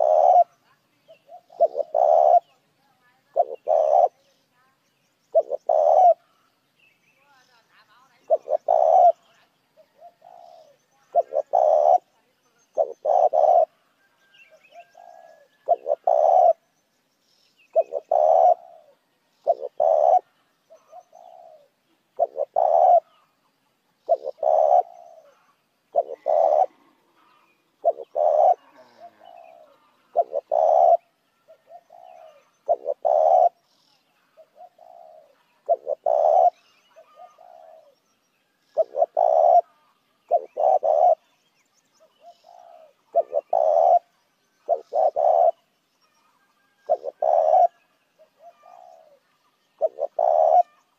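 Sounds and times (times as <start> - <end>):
dove cooing: 0.0 - 4.3, 5.3 - 6.5, 8.2 - 16.6, 17.7 - 38.0, 38.6 - 41.3, 42.0 - 50.9.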